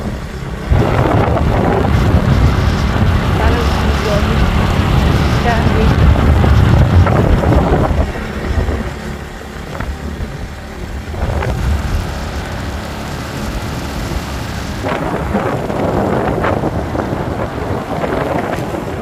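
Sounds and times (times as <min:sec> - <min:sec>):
motorbike engine: 0:00.0 - 0:19.0
road noise: 0:00.0 - 0:19.0
wind buffeting microphone: 0:00.0 - 0:19.0.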